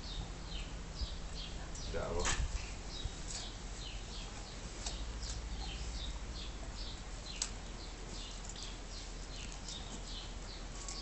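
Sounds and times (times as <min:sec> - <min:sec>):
low steady hum: 0:00.0 - 0:11.0
small birds chirping: 0:00.0 - 0:11.0.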